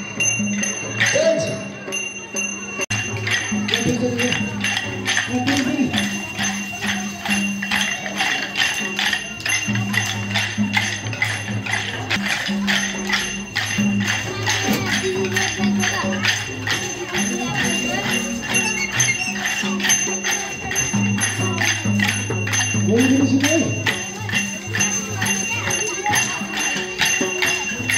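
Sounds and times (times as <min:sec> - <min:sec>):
cymbals and percussion beat: 0:00.0 - 0:27.9.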